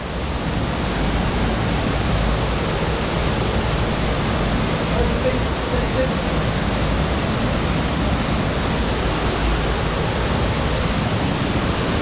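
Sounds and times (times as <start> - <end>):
water rushing in a cave: 0.0 - 12.0.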